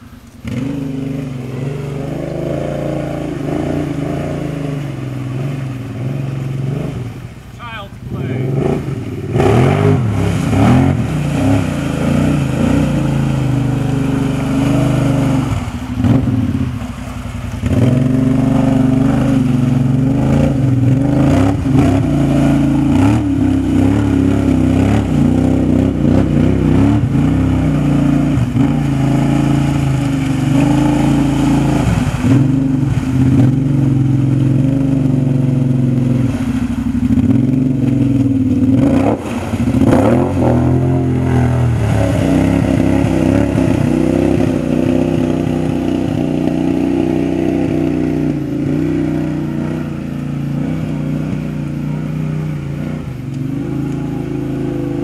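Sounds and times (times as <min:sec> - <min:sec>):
atv engine revving: 0:00.0 - 0:55.0
tires churning through water and mud: 0:00.0 - 0:55.0.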